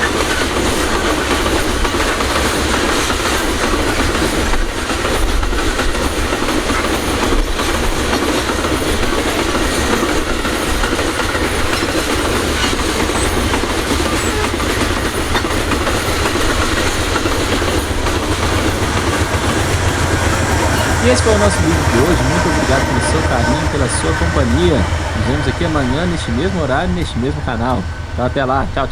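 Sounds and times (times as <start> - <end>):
freight train rumbling past: 0.0 - 28.9
train wheels clacking on rails: 0.0 - 28.9.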